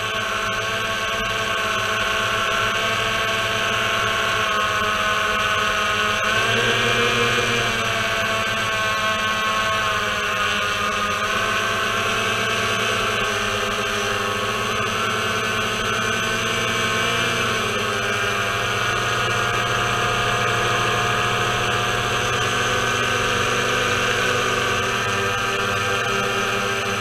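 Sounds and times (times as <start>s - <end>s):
drone motors and propellers whining: 0.0s - 27.0s.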